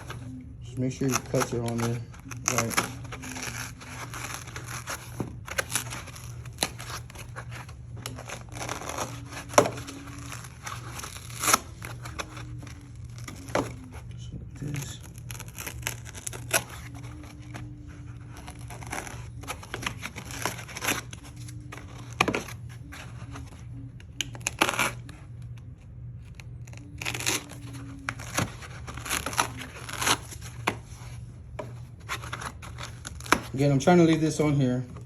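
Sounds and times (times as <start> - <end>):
foam tearing and crackling: 0.0 - 35.0
steady low hum: 0.0 - 35.0.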